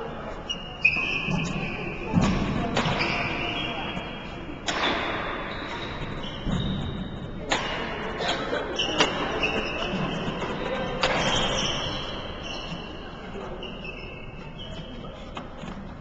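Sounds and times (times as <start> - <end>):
shoes squeaking on court floor: 0.0 - 16.0.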